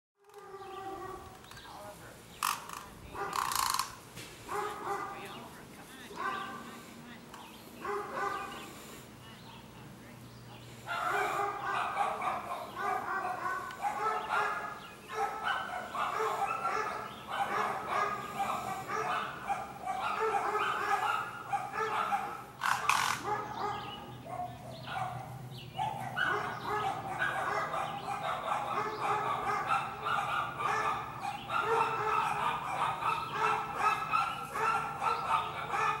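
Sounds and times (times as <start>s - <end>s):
dogs barking and yipping: 0.2s - 1.5s, 2.4s - 9.8s, 10.7s - 36.0s.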